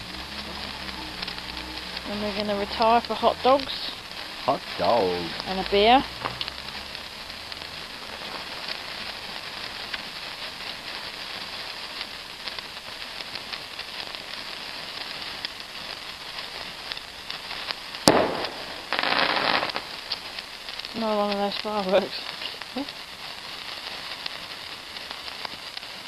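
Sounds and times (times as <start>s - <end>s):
firework fountain fizzing crackle: 0.0s - 26.0s
sharp firework crack: 0.0s - 26.0s.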